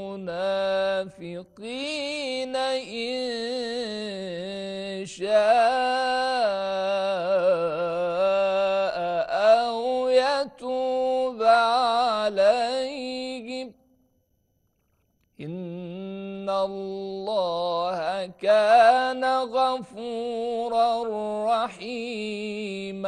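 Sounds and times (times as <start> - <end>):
man chanting melodically: 0.0 - 13.8, 15.4 - 23.0.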